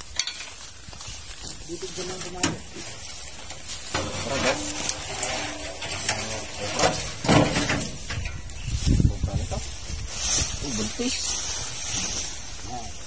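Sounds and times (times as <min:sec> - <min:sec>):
stick dragged through dry grass: 0:00.3 - 0:13.0.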